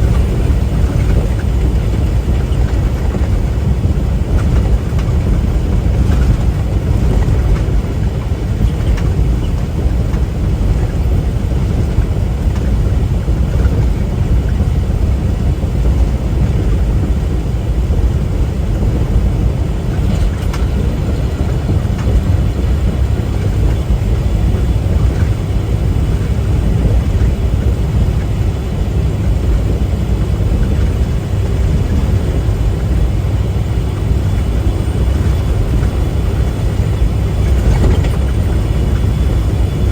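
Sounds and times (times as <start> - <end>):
diesel truck engine rumble: 0.0 - 39.9
tyre noise on road: 0.0 - 39.9.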